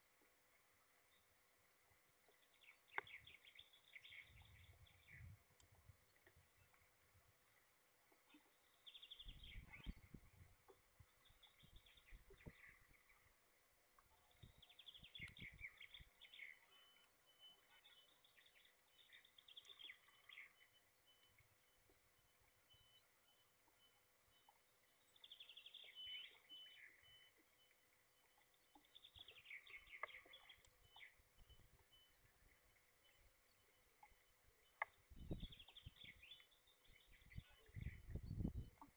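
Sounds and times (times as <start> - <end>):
faint songbirds singing: 0.1 - 38.9.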